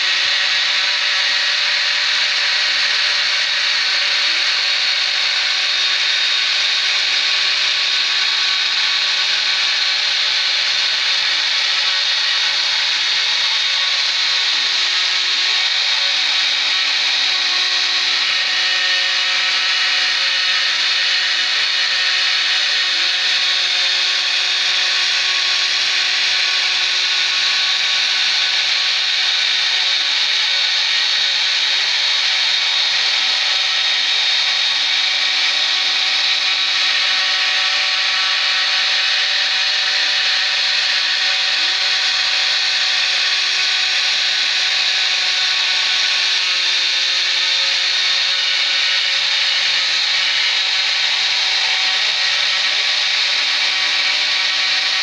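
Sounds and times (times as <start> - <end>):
router bit cutting wood: 0.0 - 55.0.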